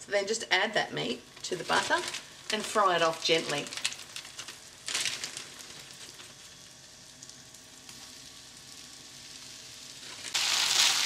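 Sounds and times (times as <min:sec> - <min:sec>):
butter sizzling in frying pan: 0:01.0 - 0:11.0.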